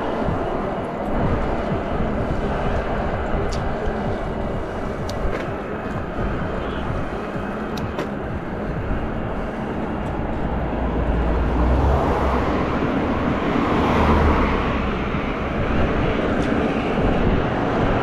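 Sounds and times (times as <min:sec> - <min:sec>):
cars passing: 0:00.0 - 0:18.0
wind buffeting microphone: 0:00.0 - 0:18.0.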